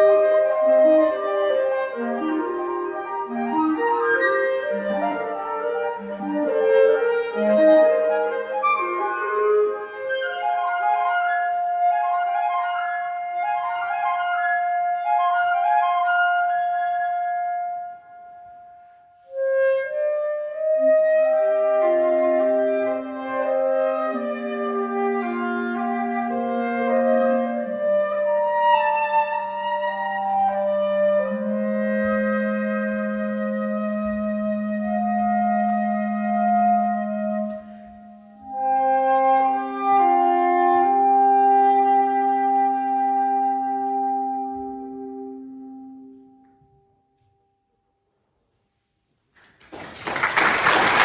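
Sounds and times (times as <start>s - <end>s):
flute and clarinets playing: 0.0s - 46.8s.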